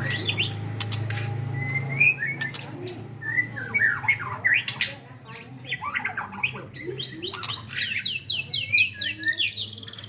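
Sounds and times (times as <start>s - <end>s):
bird singing whistles and chirps: 1.5s - 10.0s.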